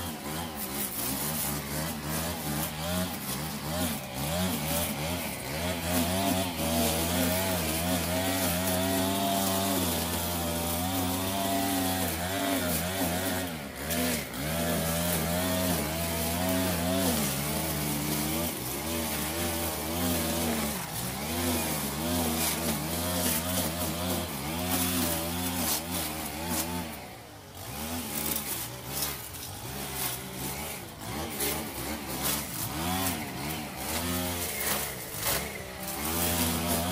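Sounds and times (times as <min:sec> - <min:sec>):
string trimmer engine revving: 0:00.0 - 0:36.9.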